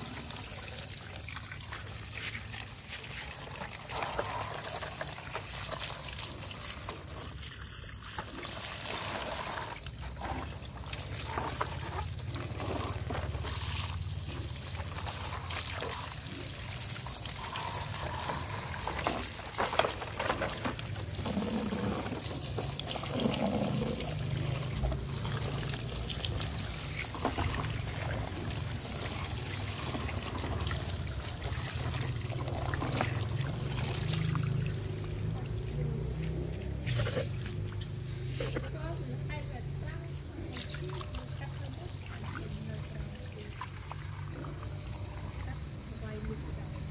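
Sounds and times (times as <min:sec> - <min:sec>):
hose water splashing on plastic: 0:00.0 - 0:46.9.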